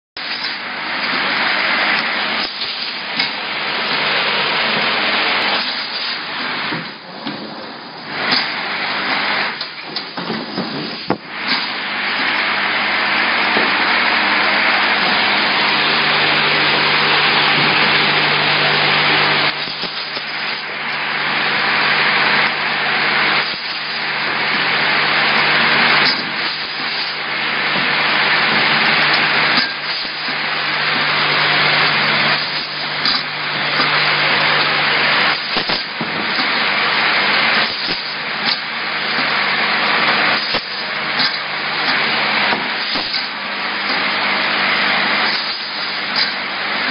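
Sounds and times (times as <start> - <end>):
low machine hum: 0.2 - 46.9.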